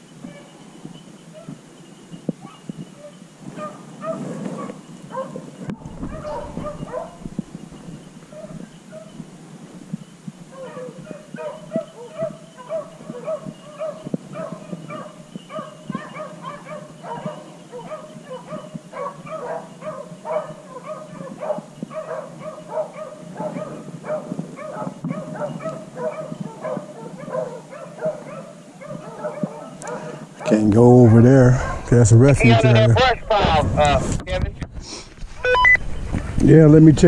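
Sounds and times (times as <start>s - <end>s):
dogs baying: 0.2s - 32.8s.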